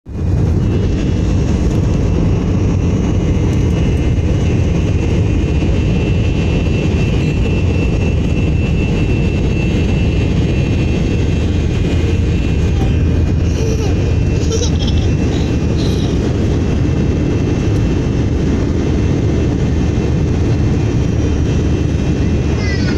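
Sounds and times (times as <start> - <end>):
airliner engine rumble: 0.1 - 22.9
high engine whine: 0.1 - 22.9.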